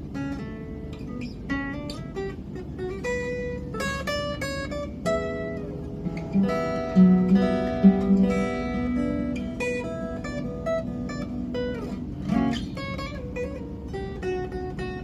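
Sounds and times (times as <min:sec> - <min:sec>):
fingerpicked acoustic guitar: 0:00.0 - 0:15.0.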